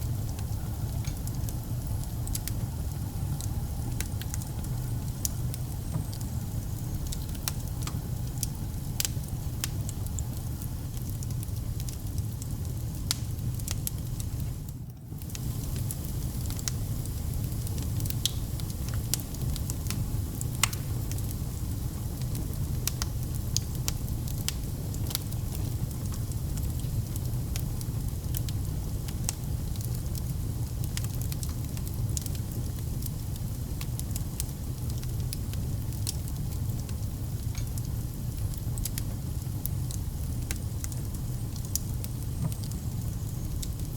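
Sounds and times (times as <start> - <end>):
low rumble of flame: 0.0 - 43.9
wood fire crackling and popping: 0.0 - 43.9.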